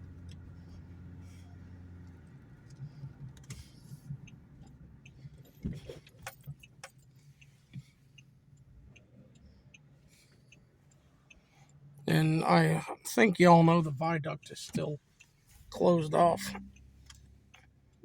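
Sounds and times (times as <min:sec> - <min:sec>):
engine and road hum: 0:00.0 - 0:18.0.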